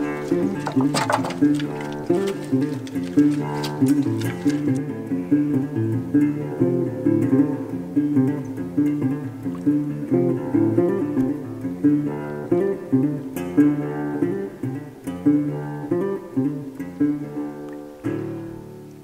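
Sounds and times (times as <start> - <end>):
acoustic guitar melody: 0.0 - 19.0.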